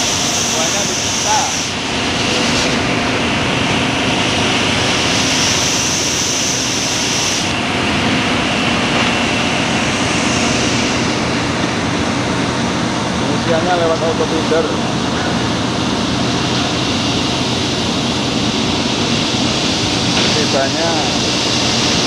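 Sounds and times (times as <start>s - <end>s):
machinery mechanical din: 0.0s - 22.0s.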